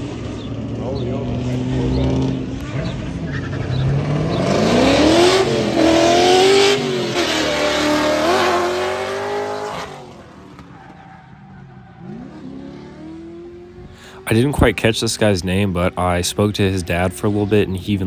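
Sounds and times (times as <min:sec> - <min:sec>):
faint car engine rising: 0:00.0 - 0:16.1
car engine revving: 0:00.0 - 0:18.0.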